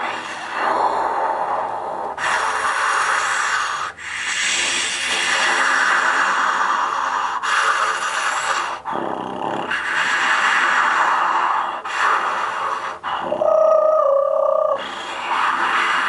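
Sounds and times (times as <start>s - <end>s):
didgeridoo breath drone: 0.0s - 16.0s.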